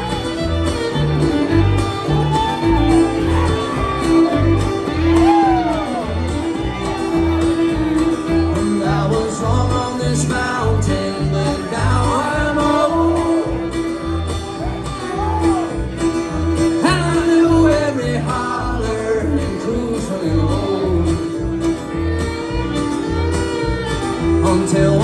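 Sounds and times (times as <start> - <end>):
bass notes: 0.0 - 25.0
fiddle lead melody: 0.0 - 25.0
guitar: 0.0 - 25.0.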